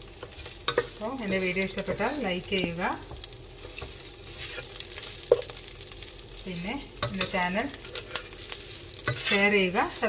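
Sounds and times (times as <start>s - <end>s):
vegetables sizzling in a pan: 0.0s - 10.0s
wooden spatula scraping: 0.1s - 5.6s, 7.0s - 10.0s.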